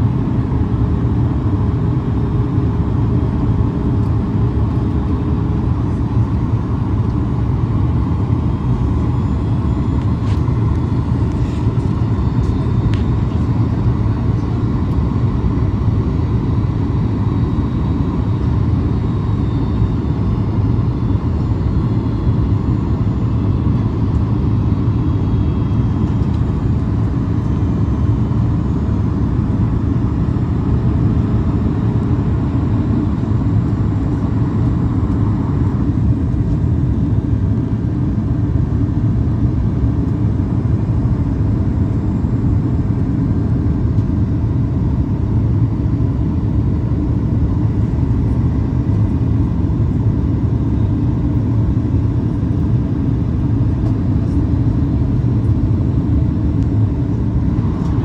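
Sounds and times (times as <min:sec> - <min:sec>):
airplane cabin rumble: 0:00.0 - 0:58.0
faint steady whine: 0:00.0 - 0:58.0.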